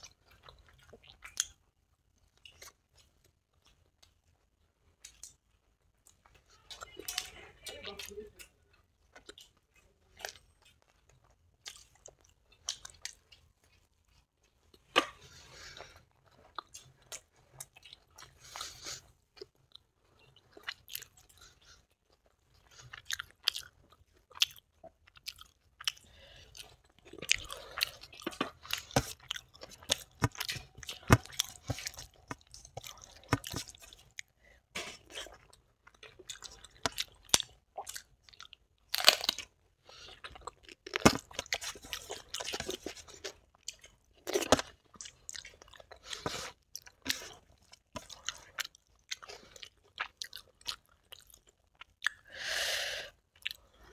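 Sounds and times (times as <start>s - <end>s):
crunchy chewing: 8.4s - 52.3s, 53.4s - 53.9s.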